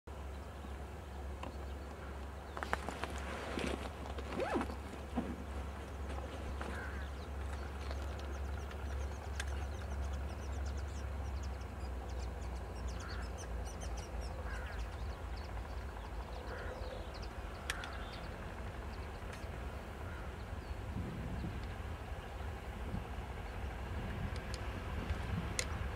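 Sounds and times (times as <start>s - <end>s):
birds chirping: 0.1s - 22.4s
diesel locomotives rumbling: 0.1s - 25.9s.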